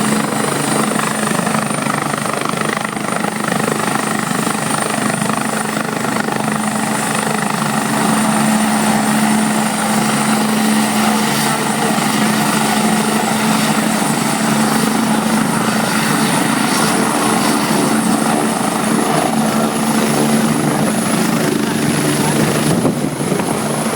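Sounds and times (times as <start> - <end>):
helicopter rotor and turbine: 0.0 - 23.9.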